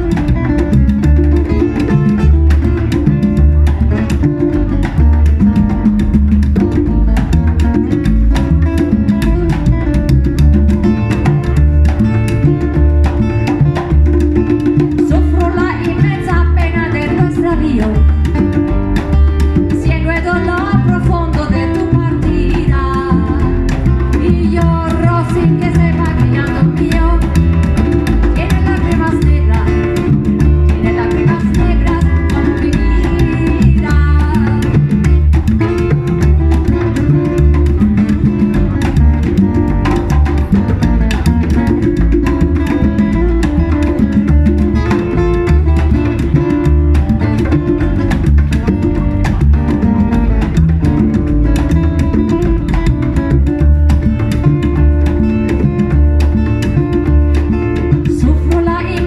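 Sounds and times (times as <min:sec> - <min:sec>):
guitar: 0:00.0 - 0:59.0
latin band instrumental: 0:00.0 - 0:59.0.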